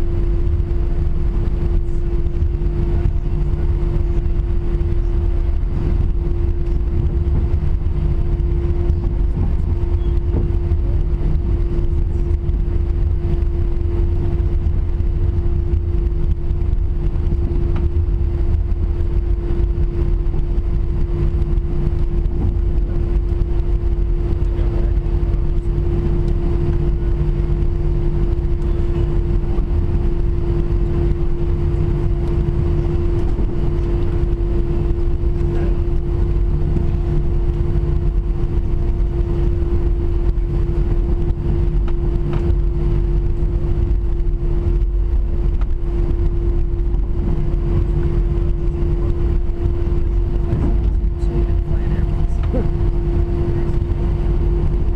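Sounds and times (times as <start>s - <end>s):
jet engines running at low power: 0.0s - 54.9s.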